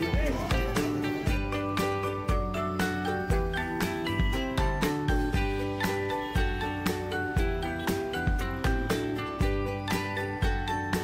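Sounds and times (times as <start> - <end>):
background music with bass beat: 0.0 - 11.0.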